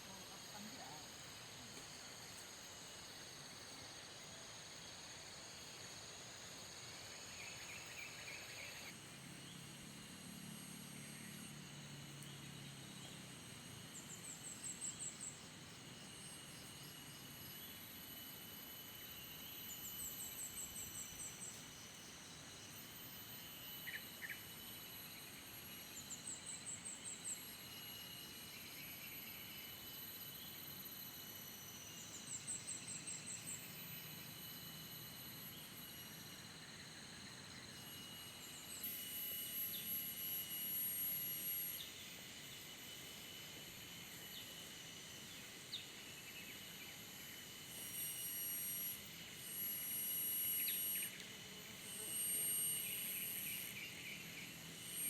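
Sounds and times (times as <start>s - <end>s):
insects trilling: 0.0s - 55.0s
quick pulsed insect chirp: 0.0s - 55.0s.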